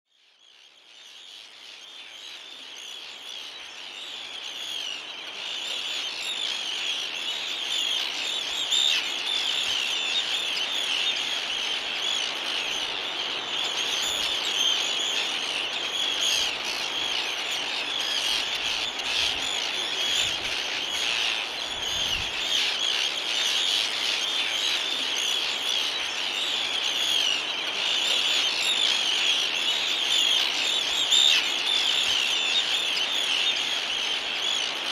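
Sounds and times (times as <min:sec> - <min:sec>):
terns calling: 0:00.2 - 0:34.9.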